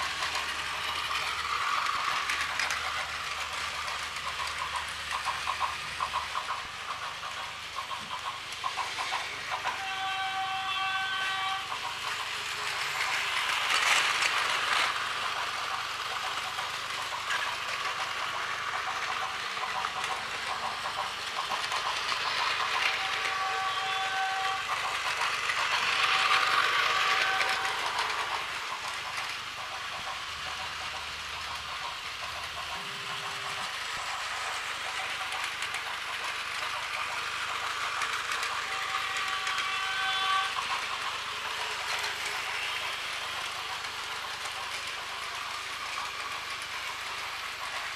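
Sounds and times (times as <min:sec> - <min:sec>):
toy trains whirring and clattering: 0:00.0 - 0:47.9.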